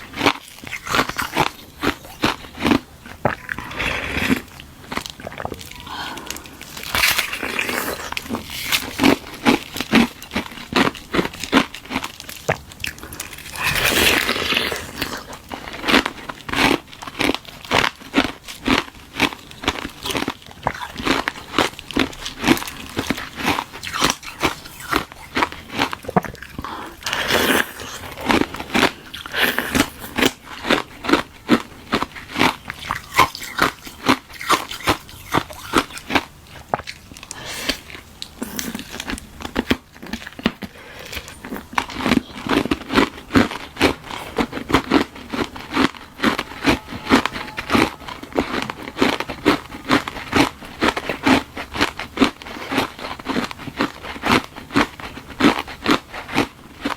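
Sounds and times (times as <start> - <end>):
crunching and chewing ice: 0.0 - 56.9.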